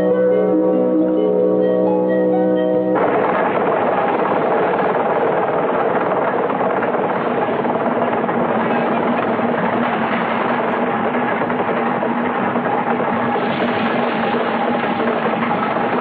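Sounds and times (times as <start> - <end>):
boat engine rattling: 0.0 - 16.0.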